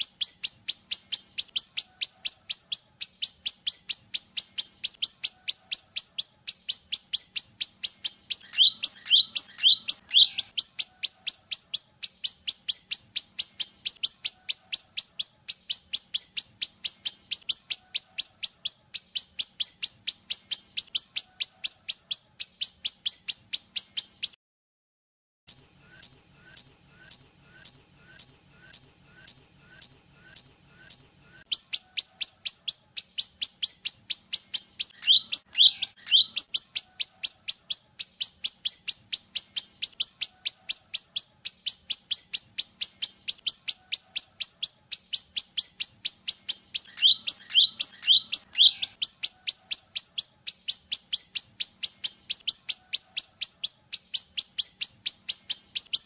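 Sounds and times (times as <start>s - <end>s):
bird song with high chirps: 0.0s - 24.4s, 25.5s - 56.0s.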